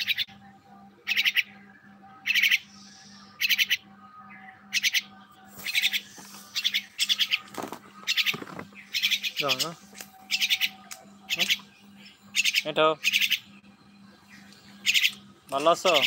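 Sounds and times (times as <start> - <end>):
bird chattering calls: 0.0 - 0.3, 1.0 - 1.6, 2.2 - 3.9, 4.6 - 16.0
faint steady hum: 0.0 - 16.0.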